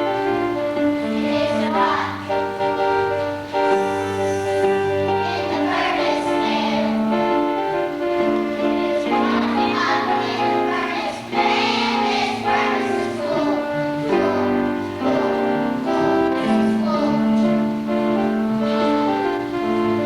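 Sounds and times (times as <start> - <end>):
children's choir singing: 0.0 - 20.0
instrumental accompaniment: 0.0 - 20.0.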